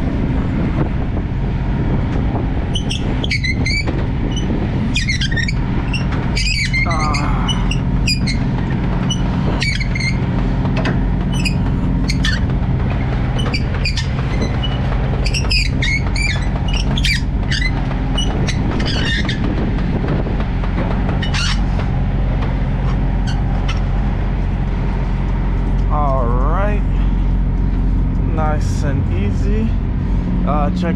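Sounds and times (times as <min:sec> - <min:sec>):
truck diesel engine running: 0:00.0 - 0:30.9.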